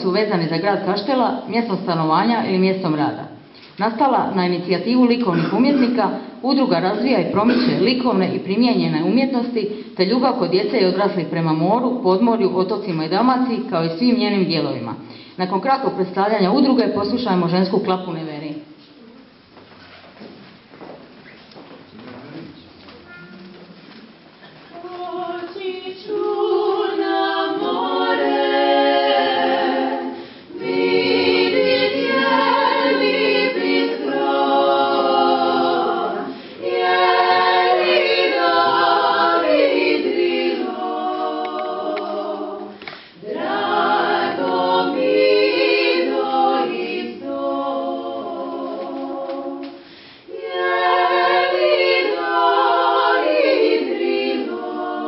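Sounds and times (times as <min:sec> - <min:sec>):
women singing a cappella harmony: 0:00.0 - 0:18.2, 0:24.7 - 0:55.0.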